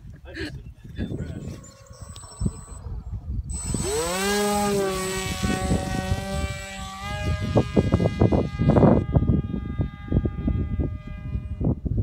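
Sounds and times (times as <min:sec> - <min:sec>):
wind buffeting microphone: 0:00.0 - 0:12.0
electric motor whine: 0:01.4 - 0:12.0.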